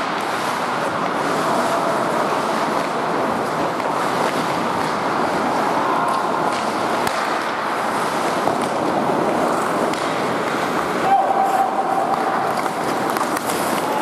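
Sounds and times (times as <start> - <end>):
skate blades on ice: 0.0 - 14.0.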